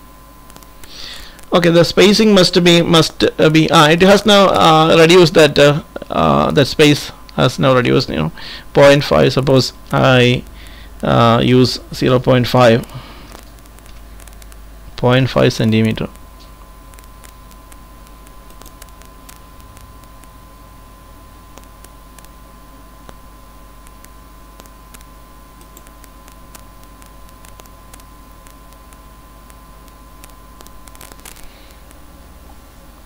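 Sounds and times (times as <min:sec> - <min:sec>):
low electrical hum: 0:00.0 - 0:33.0
thin steady whine: 0:00.0 - 0:33.0.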